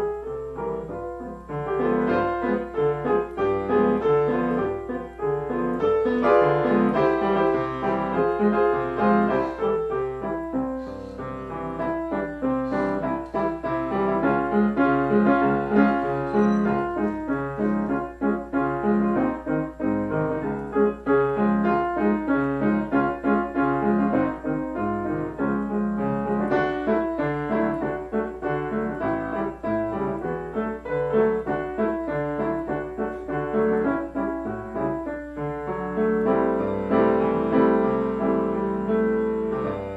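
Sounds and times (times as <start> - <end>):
faint low hum: 0.0 - 39.9
solo piano playing: 0.0 - 39.9.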